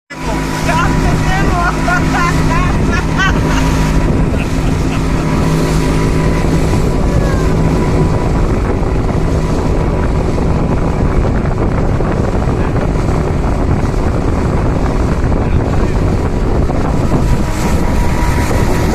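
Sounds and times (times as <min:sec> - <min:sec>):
boat motor running: 0:00.1 - 0:18.9
wind buffeting microphone: 0:00.1 - 0:18.9.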